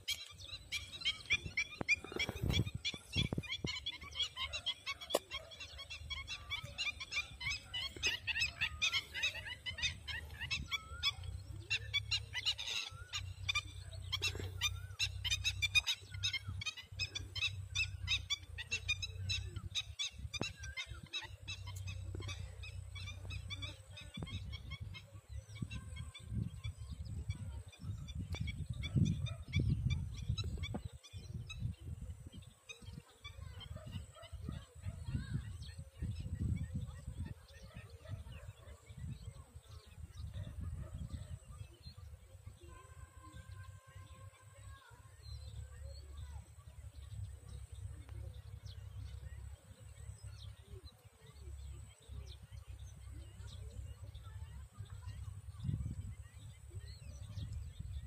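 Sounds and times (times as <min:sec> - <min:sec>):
birds calling: 0:00.0 - 0:58.0.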